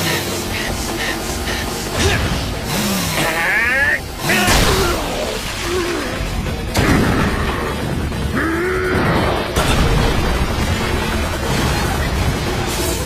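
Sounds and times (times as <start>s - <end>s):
dramatic action music: 0.0s - 13.0s
heavy booming impacts: 0.3s - 13.0s.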